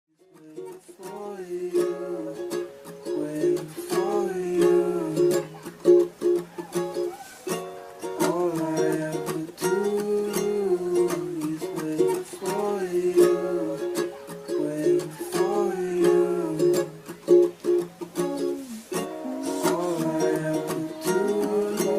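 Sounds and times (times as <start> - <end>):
light tune on plucked strings: 0.2 - 21.9.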